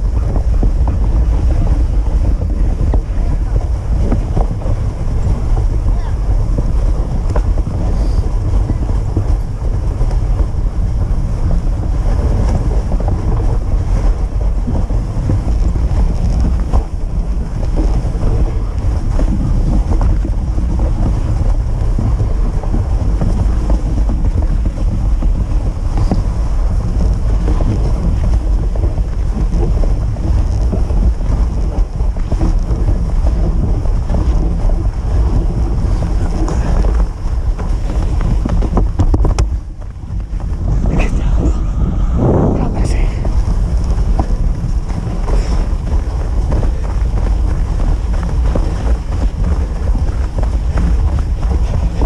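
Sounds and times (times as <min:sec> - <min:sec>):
sled rumbling over snow: 0:00.0 - 0:52.0
wind buffeting microphone: 0:00.0 - 0:52.0.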